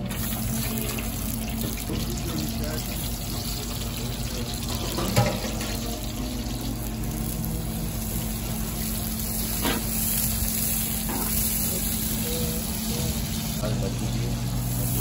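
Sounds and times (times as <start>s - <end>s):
onions frying in oil: 0.0s - 15.0s.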